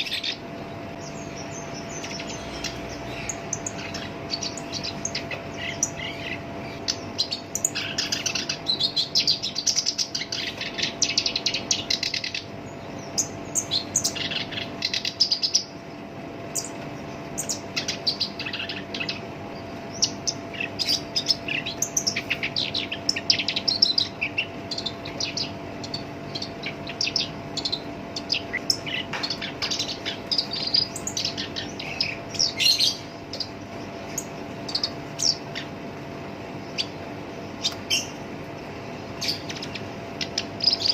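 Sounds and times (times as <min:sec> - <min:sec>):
bird singing chattering song: 0:00.0 - 0:40.9
faint steady hum: 0:00.0 - 0:40.9.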